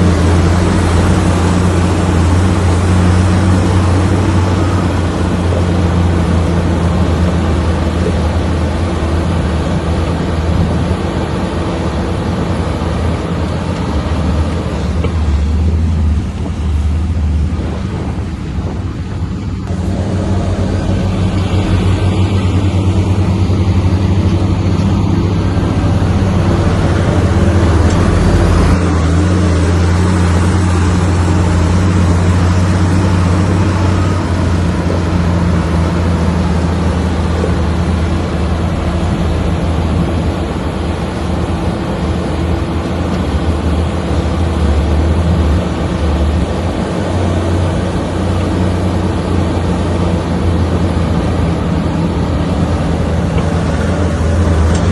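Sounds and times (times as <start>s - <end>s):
bulldozer diesel engine drone: 0.0s - 54.9s.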